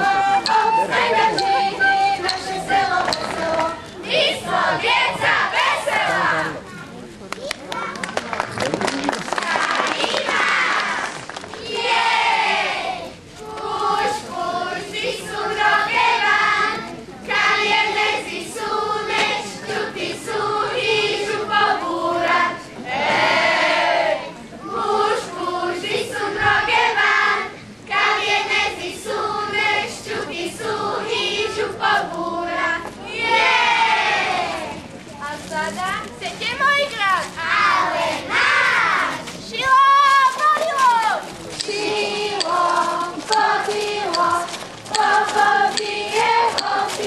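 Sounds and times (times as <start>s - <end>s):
children singing folk song: 0.0s - 6.6s, 9.4s - 34.9s, 37.2s - 47.0s.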